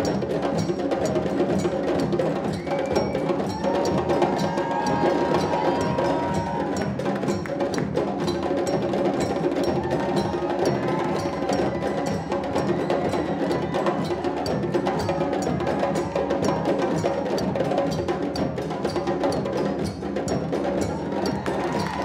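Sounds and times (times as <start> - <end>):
djembe drum ensemble: 0.0 - 22.0
drum beaten with sticks: 0.0 - 22.0.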